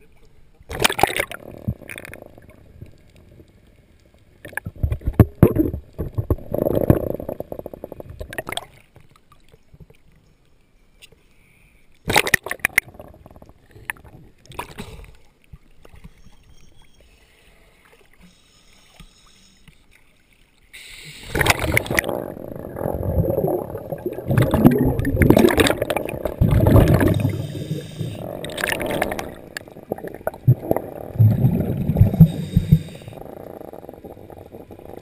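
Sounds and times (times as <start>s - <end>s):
water splashing and sloshing: 0.0s - 10.2s, 12.0s - 17.1s, 17.8s - 33.4s.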